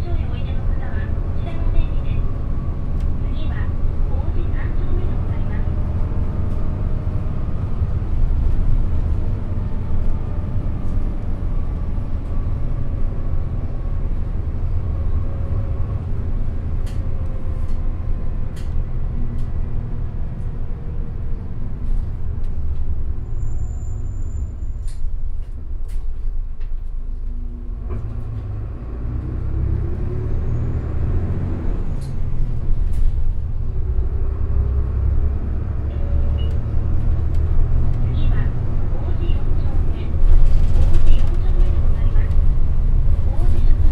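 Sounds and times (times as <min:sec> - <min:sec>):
bus engine rumbling: 0:00.0 - 0:43.9.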